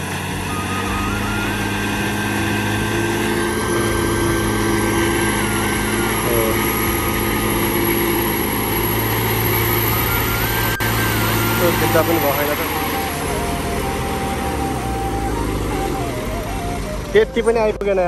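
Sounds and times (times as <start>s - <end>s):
truck engine straining: 0.0s - 18.0s.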